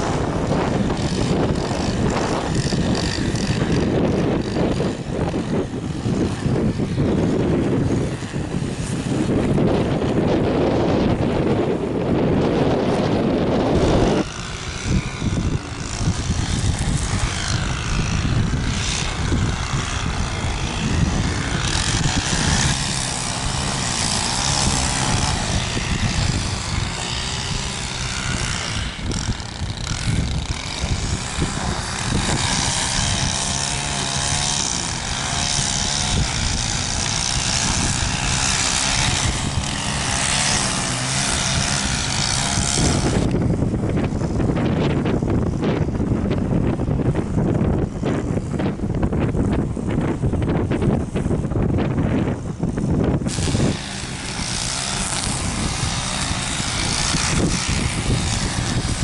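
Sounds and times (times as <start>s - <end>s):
aircraft engines: 0.0s - 59.0s
wind buffeting microphone: 0.0s - 59.0s.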